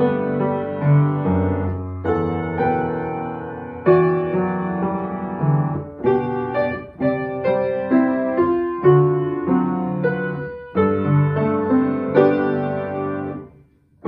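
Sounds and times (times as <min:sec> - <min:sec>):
grand piano chords ringing: 0:00.0 - 0:13.6.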